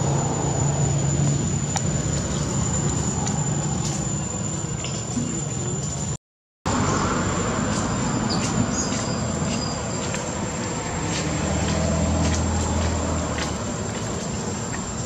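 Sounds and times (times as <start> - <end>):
high insect tone: 0.0 - 15.0
motor vehicle low hum: 0.0 - 15.0.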